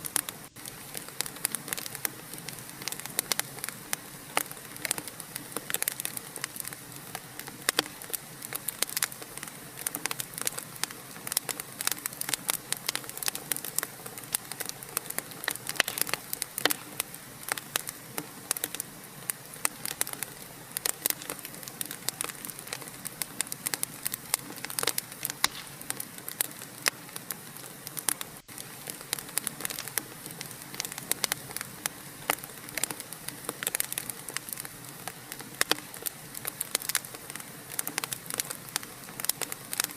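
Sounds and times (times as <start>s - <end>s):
steady hiss: 0.0s - 39.9s
wood fire crackling and popping: 0.0s - 39.9s.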